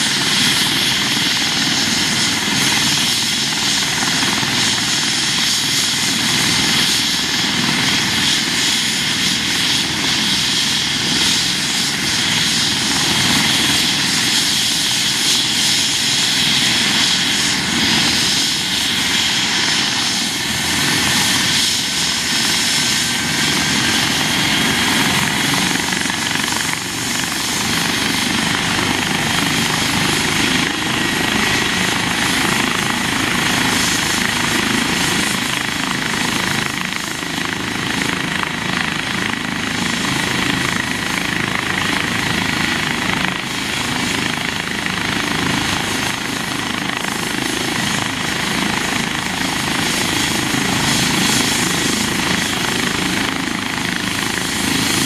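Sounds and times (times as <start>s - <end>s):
helicopter engines whining: 0.0s - 55.0s
helicopter rotor whirring: 0.0s - 55.0s.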